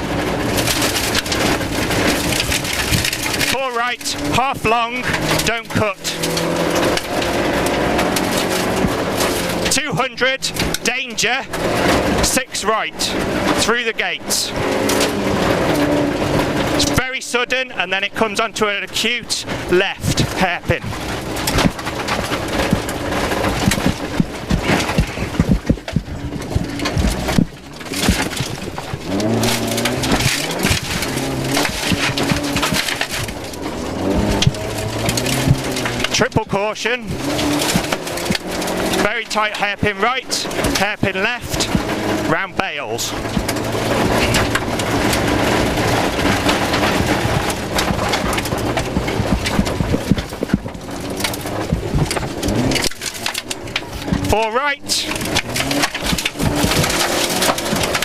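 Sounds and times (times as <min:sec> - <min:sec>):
car engine revving: 0:00.0 - 0:58.0
gravel rattling under car: 0:00.0 - 0:58.0.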